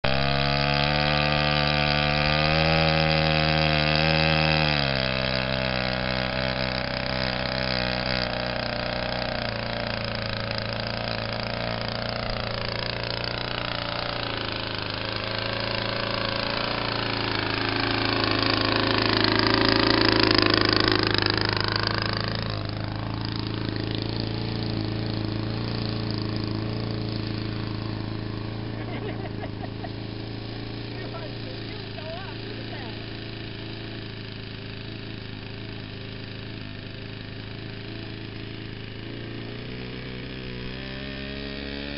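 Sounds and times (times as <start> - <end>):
model plane engine running: 0.0 - 41.9.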